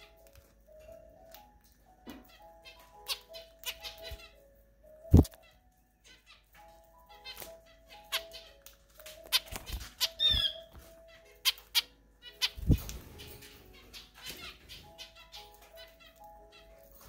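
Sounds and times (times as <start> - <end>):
bird chirp: 0.0 - 17.0
soft background music: 0.0 - 17.0.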